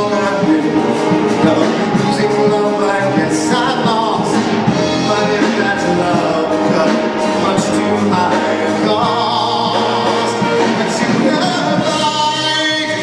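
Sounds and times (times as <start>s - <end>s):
orchestra strings playing: 0.0s - 13.0s
voices singing long notes: 0.0s - 13.0s.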